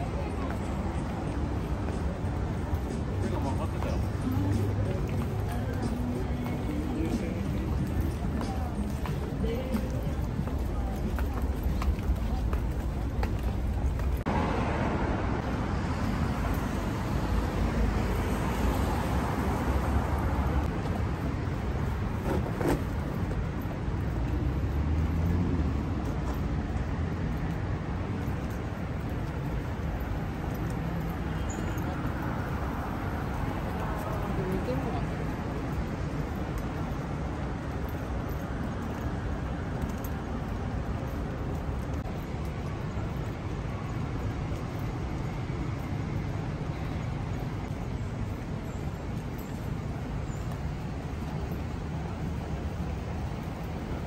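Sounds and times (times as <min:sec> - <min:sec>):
cars passing in low rumble: 0:00.0 - 0:54.0.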